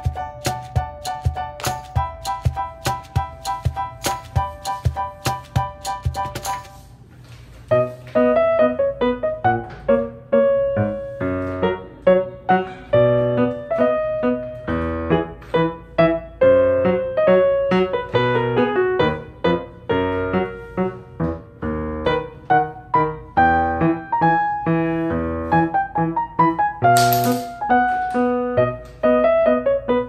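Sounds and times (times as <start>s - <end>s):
piano music: 0.0s - 7.1s, 7.7s - 30.0s.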